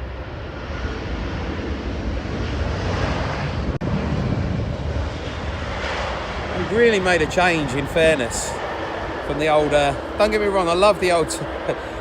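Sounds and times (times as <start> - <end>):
jet airliner engines rushing: 0.0 - 12.0.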